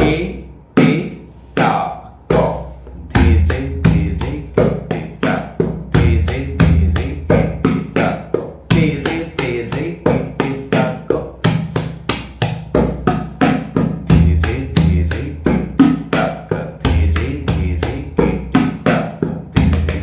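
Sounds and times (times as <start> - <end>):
tabla playing: 2.3 - 20.0.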